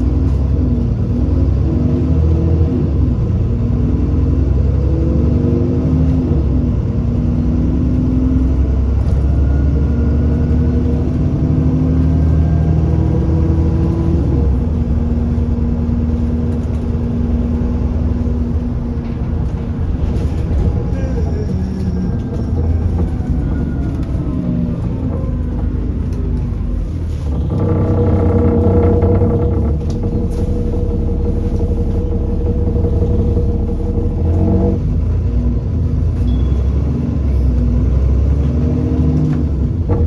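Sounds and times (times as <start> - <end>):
bus engine rumble with gear changes: 0.0 - 40.0.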